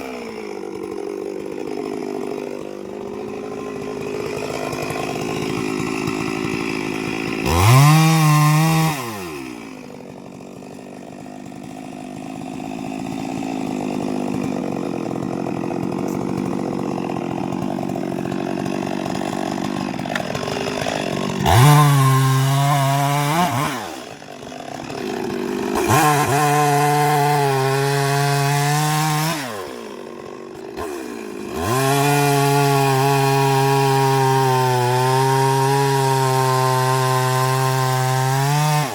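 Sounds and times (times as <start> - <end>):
two-stroke chainsaw revving: 0.0 - 38.9.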